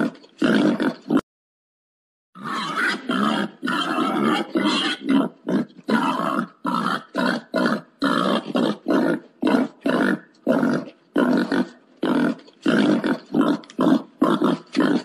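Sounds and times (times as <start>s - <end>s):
wild boar grunting: 0.0s - 1.2s, 2.4s - 15.0s.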